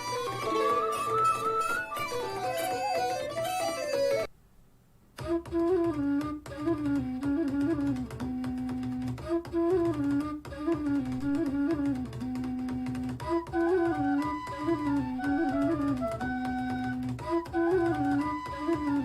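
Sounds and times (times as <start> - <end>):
instrumental music through speaker: 0.0 - 4.3, 5.2 - 19.0.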